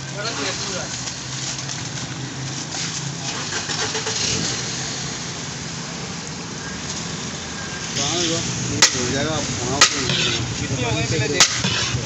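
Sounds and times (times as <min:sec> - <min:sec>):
engine humming: 0:00.0 - 0:12.0
street traffic: 0:00.0 - 0:12.0.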